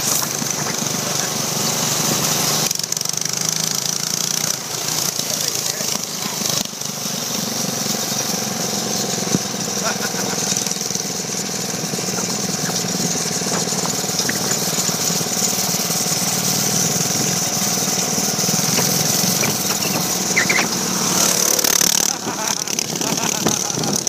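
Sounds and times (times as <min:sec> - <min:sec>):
minibike engine running: 0:00.0 - 0:24.0.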